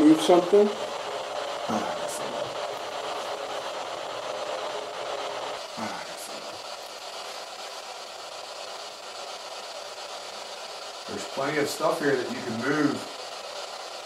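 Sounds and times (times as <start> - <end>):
steady hiss with faint hum: 0.0 - 14.0.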